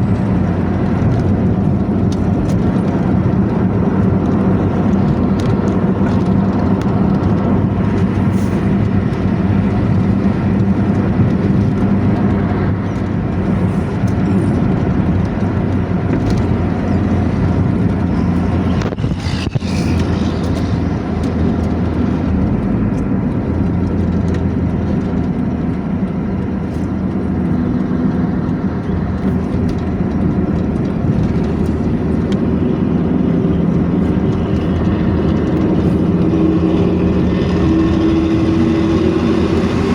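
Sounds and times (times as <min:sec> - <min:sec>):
bus engine growling: 0:00.0 - 0:39.9.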